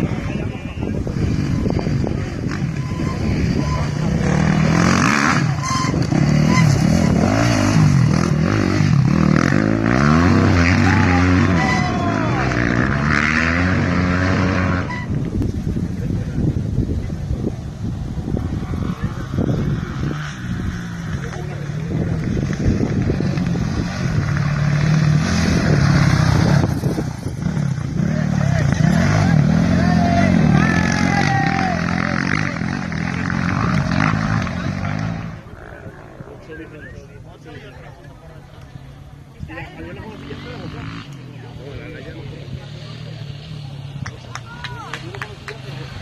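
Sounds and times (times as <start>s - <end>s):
motorcycle engine revving: 0.0s - 36.9s, 38.6s - 46.0s.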